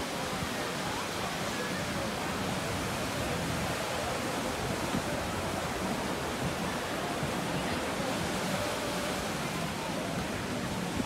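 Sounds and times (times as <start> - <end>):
faint chatter of people: 0.0 - 11.0
small waves washing on beach: 0.0 - 11.0.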